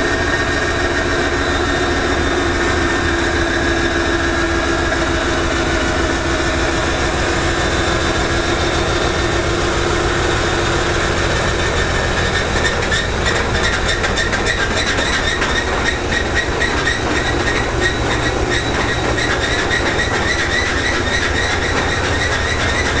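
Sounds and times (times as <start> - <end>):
locomotive engine drone: 0.0 - 23.0
wheels clattering over rail joints: 0.0 - 23.0.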